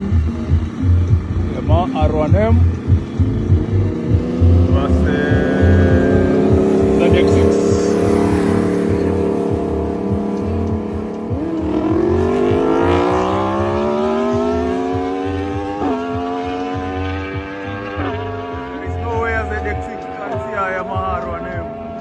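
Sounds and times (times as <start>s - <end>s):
motorcycle engine accelerating: 0.0s - 22.0s
music beat: 0.0s - 22.0s.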